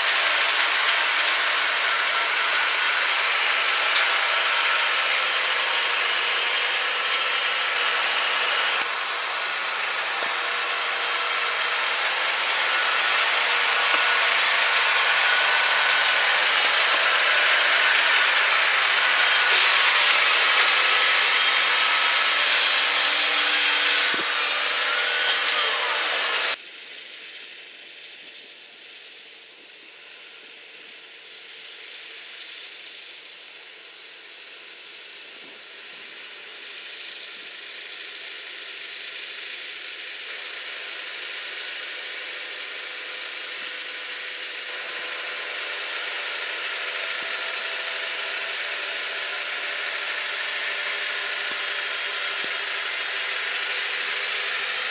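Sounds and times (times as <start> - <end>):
tractor running: 0.0 - 26.6, 31.8 - 54.9.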